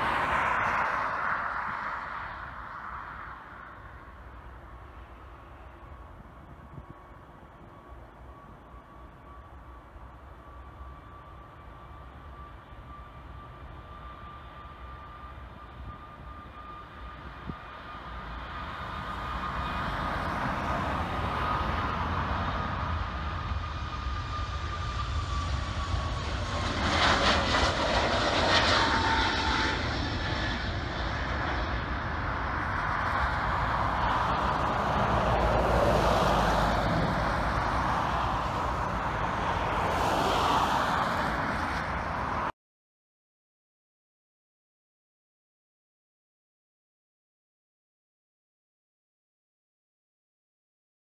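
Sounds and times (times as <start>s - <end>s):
jet engines at take-off thrust: 0.0s - 42.6s.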